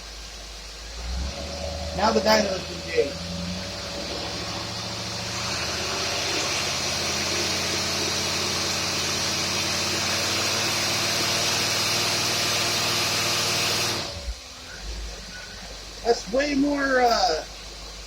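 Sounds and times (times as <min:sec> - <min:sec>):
car engine running under load: 0:00.0 - 0:18.0
strong steady hiss: 0:00.0 - 0:18.0.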